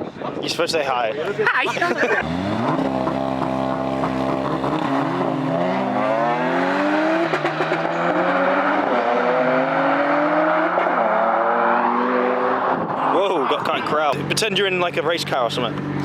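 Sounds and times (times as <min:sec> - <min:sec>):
car engine revving: 0:02.0 - 0:16.0.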